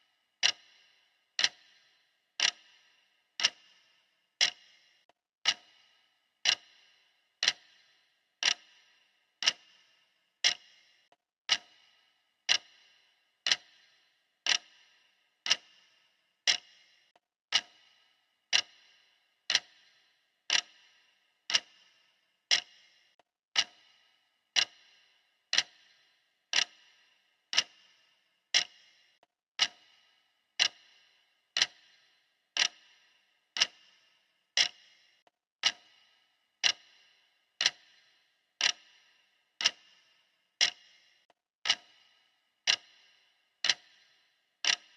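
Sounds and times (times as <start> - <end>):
clock ticking: 0.0 - 44.9.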